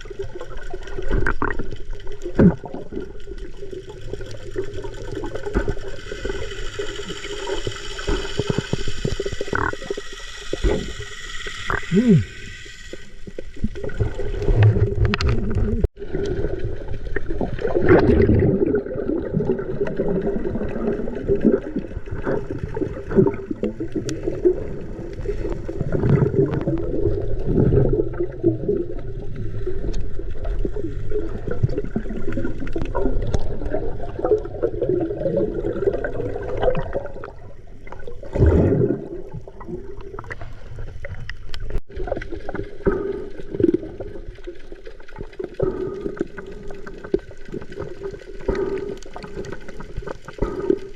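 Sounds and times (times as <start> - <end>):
water gurgling against microphone: 0.0 - 50.9
water splashing: 0.0 - 50.9.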